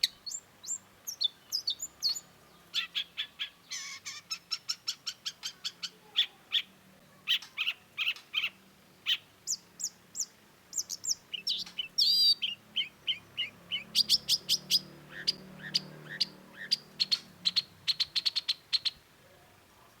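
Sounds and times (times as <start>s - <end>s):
bird chirping song: 0.0s - 19.1s.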